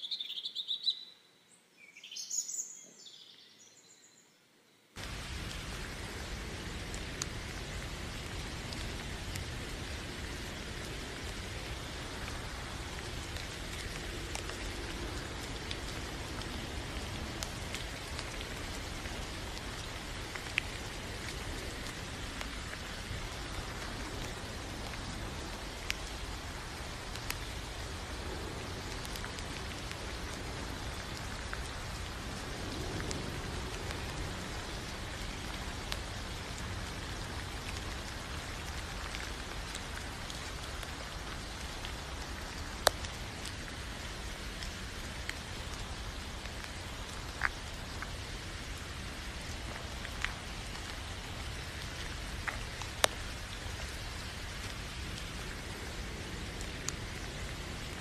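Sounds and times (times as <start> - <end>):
rain falling: 5.0 - 58.0.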